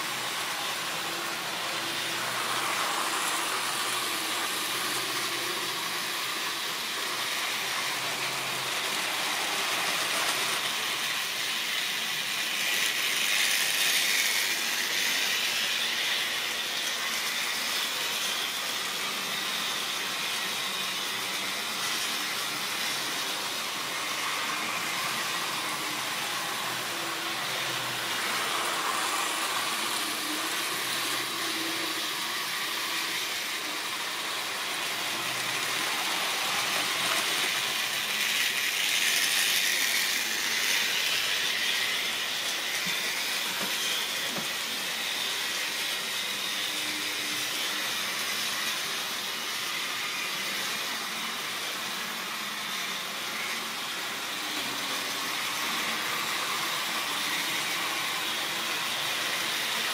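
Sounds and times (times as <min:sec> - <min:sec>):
model train electric whirr: 0:00.0 - 0:59.9.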